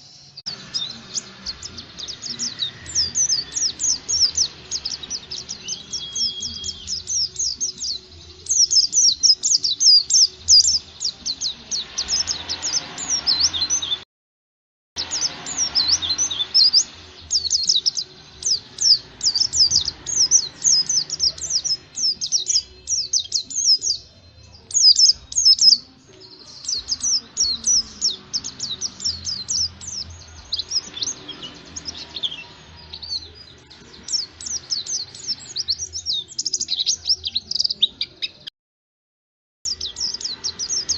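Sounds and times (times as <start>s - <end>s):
bird twittering song: 0.0s - 14.0s, 15.0s - 38.5s, 39.7s - 40.9s.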